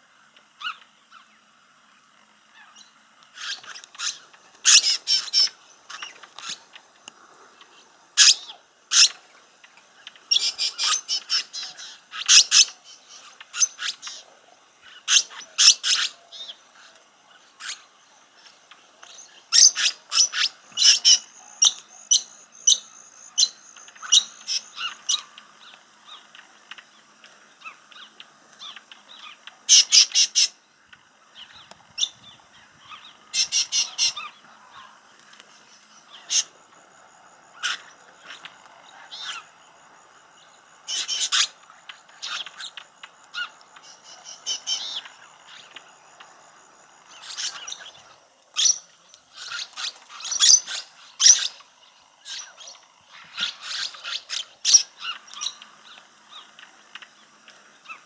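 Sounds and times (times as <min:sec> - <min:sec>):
lorikeets screeching: 0:00.6 - 0:01.5, 0:02.5 - 0:06.9, 0:07.5 - 0:09.3, 0:10.0 - 0:26.8, 0:27.6 - 0:30.7, 0:31.3 - 0:35.0, 0:35.6 - 0:36.7, 0:37.5 - 0:39.7, 0:40.4 - 0:46.0, 0:47.0 - 0:58.0.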